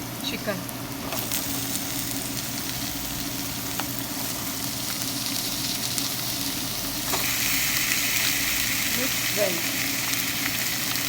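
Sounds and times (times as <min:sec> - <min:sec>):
chicken sizzling in hot oil: 0:00.2 - 0:11.0.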